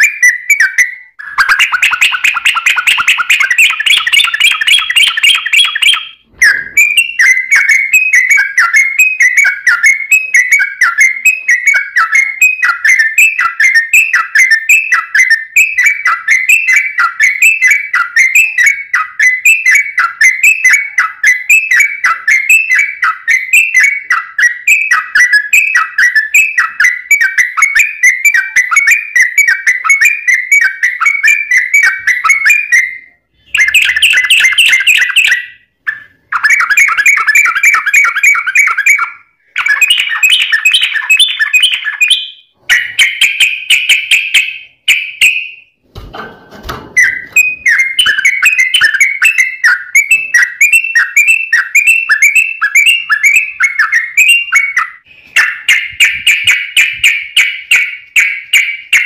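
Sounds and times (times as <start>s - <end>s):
bird whistled chirps: 0.0s - 45.7s, 46.9s - 59.0s.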